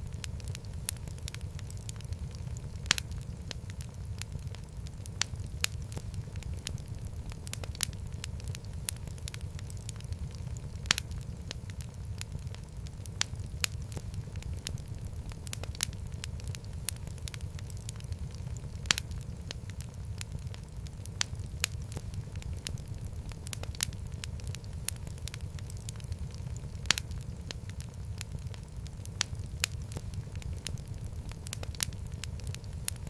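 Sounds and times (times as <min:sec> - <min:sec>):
burning wood popping: 0:00.0 - 0:33.0
fire crackling and rumbling: 0:00.0 - 0:33.0.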